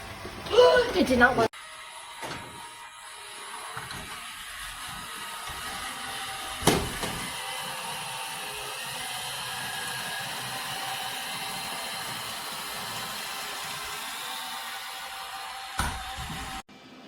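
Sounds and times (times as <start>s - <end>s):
robot vacuum whining and humming: 0.0s - 17.0s.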